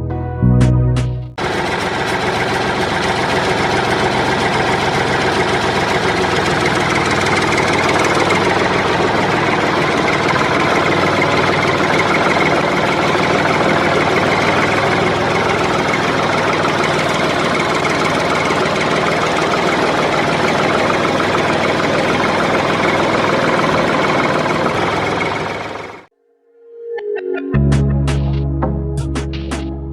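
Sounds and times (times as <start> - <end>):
tractor engine knocking: 1.4 - 26.1.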